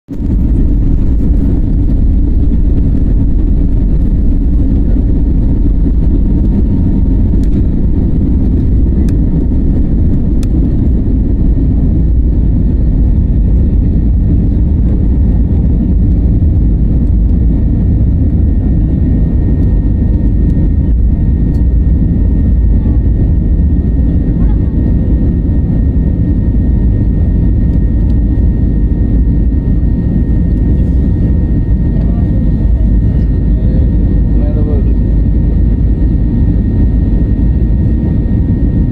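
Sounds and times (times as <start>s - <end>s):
airliner engines rumbling: 0.1s - 38.9s.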